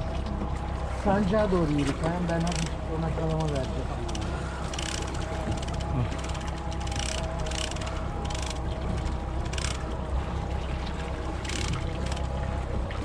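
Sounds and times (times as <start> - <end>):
boat engine running: 0.0 - 13.0
water splashes: 0.0 - 13.0.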